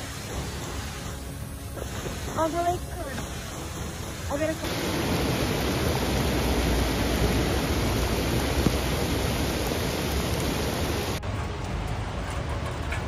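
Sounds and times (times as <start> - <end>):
heavy rain on flooded street: 0.0 - 12.5
dull low rushing noise: 0.0 - 13.0.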